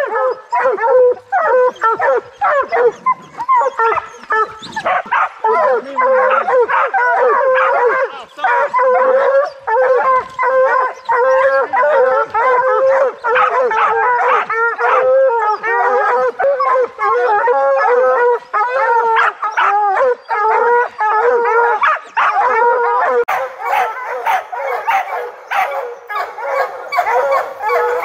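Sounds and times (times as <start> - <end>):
pack of hounds baying: 0.0 - 28.0.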